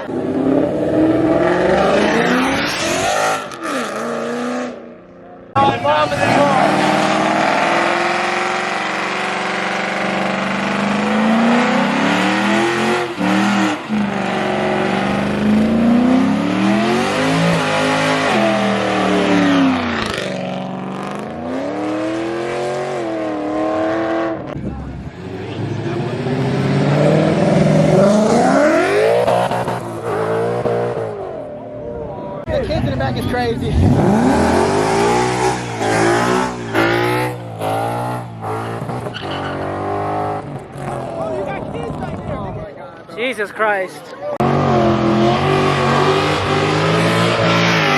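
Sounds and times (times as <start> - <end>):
car engine revving: 0.0 - 31.6, 32.4 - 42.1, 44.4 - 47.9.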